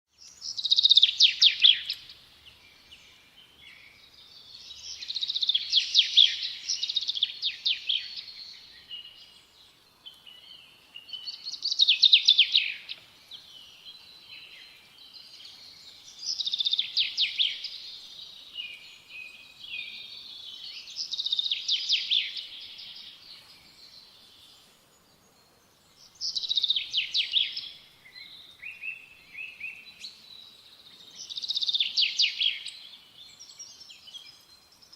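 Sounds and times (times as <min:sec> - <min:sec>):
faint bird chirps: 0:00.1 - 0:34.9.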